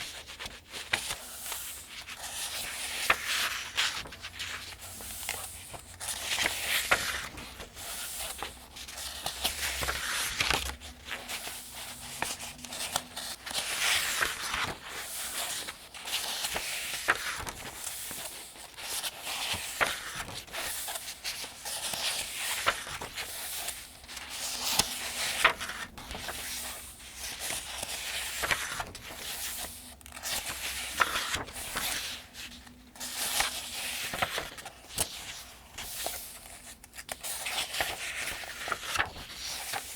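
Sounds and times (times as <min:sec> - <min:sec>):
pages being turned: 0:00.0 - 0:39.9.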